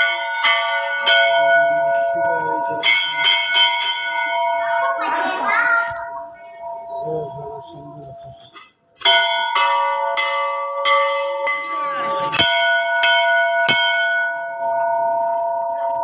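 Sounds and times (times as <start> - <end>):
brass bell ringing: 0.0 - 16.0.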